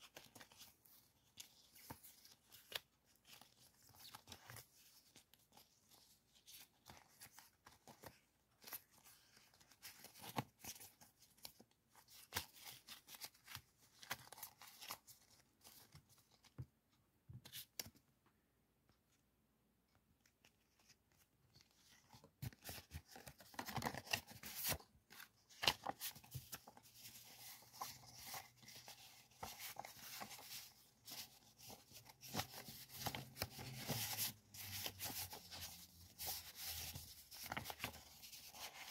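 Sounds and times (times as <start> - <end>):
paper rustling and crinkling: 0.0 - 16.7, 20.2 - 38.9.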